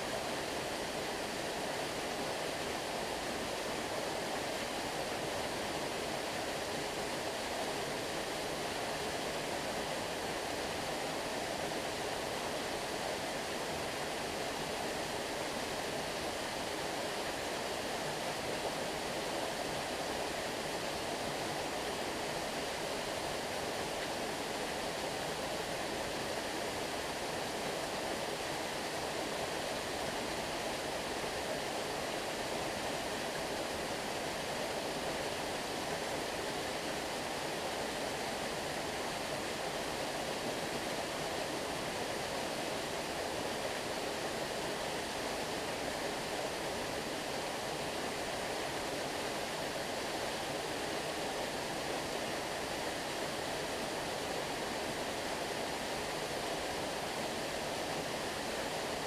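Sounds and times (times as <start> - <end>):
stream of flowing water: 0.0 - 59.0.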